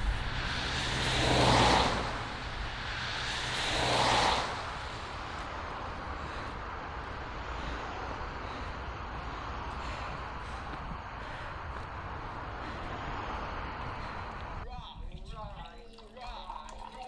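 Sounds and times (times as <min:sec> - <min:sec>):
cars driving past: 0:00.0 - 0:14.6
steady background noise: 0:00.0 - 0:14.6.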